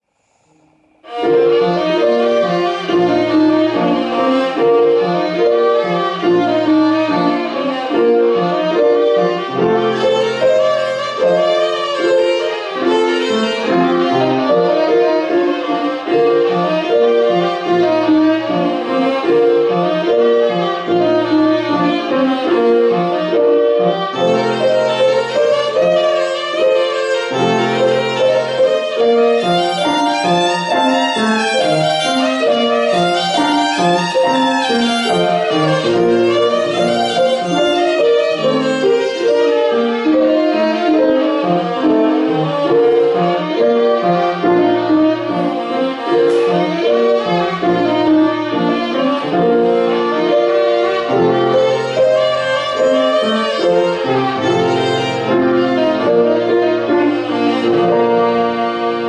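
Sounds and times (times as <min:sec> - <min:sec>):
piano accompaniment: 0:00.0 - 0:59.0
violin playing quick running notes: 0:01.1 - 0:59.0.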